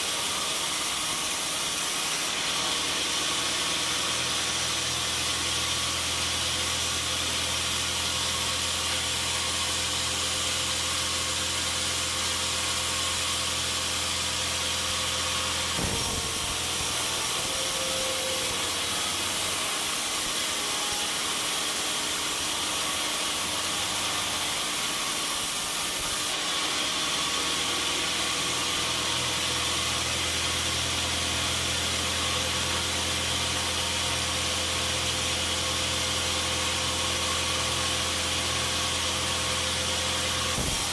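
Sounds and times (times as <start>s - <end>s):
sawmill motor hum: 0.0s - 40.9s.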